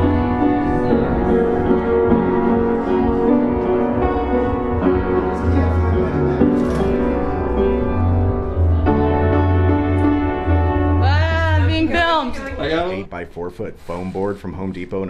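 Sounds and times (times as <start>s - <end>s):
upright piano slow chords: 0.0s - 13.1s.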